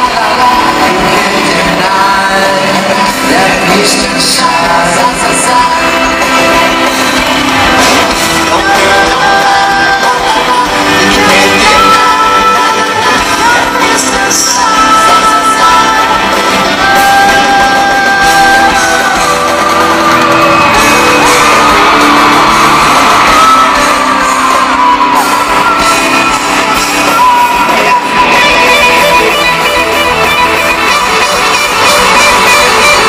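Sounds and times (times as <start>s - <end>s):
electric guitar: 0.0s - 33.0s
live pop rock band: 0.0s - 33.0s.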